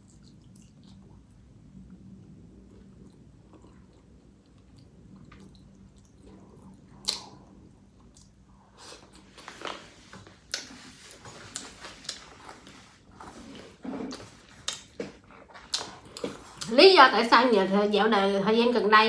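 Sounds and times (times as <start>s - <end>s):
person chewing with wet smacks: 0.0s - 9.7s, 10.3s - 16.7s.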